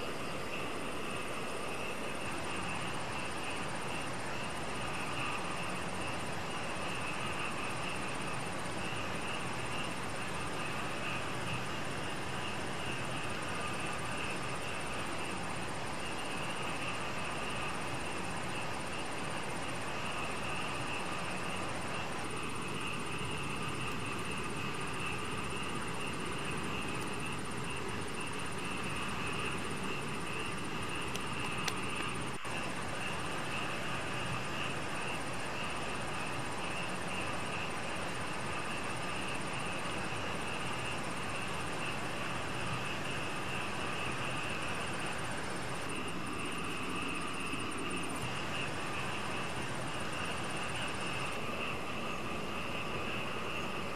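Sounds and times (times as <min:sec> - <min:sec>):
insects trilling: 0:00.0 - 0:53.9
steady low hiss: 0:00.0 - 0:53.9.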